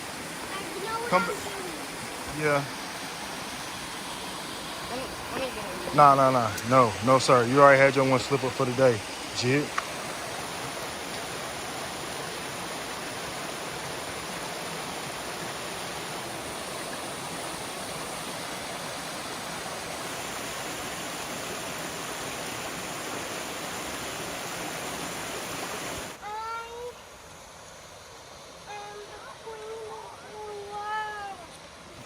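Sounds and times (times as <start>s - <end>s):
waterfall rushing: 0.0s - 27.1s.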